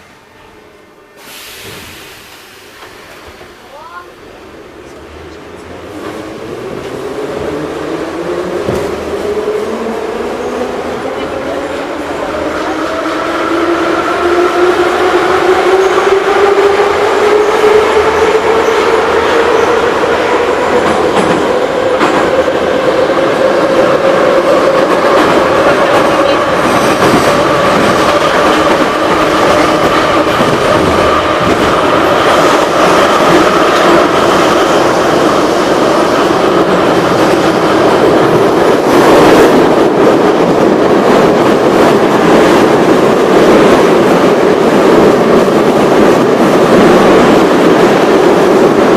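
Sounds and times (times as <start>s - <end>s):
train wheels rumbling: 1.2s - 48.9s.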